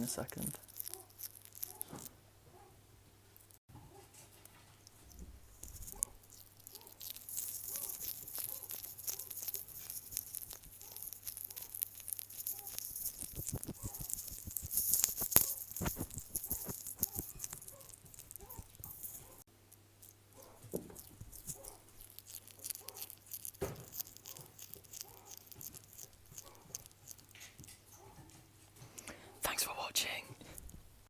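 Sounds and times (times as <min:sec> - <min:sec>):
animal crunching beetle shell: 0:00.0 - 0:02.1, 0:03.4 - 0:29.1.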